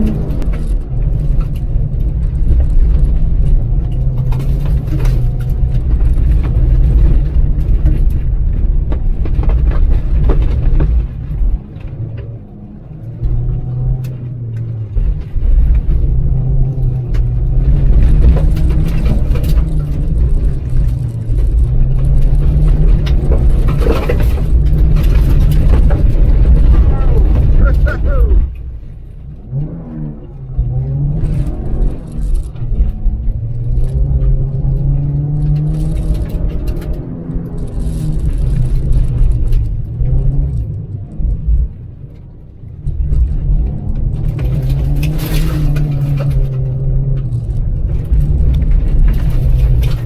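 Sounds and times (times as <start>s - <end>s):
car engine revving: 0.0s - 50.0s
road noise on dirt: 0.0s - 50.0s.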